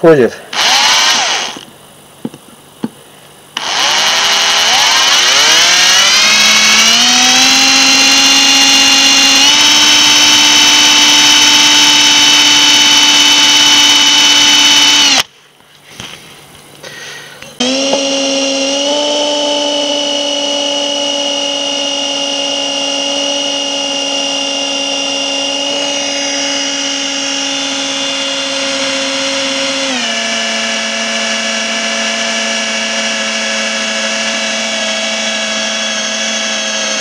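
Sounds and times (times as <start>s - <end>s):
electric drill whining: 0.5s - 1.7s, 3.6s - 15.3s, 17.6s - 37.0s.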